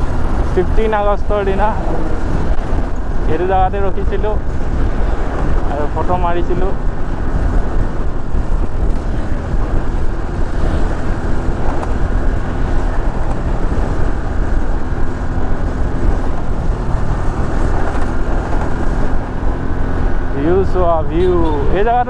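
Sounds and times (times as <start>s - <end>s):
motorcycle engine drone: 0.0s - 22.0s
wind rush on microphone: 0.0s - 22.0s.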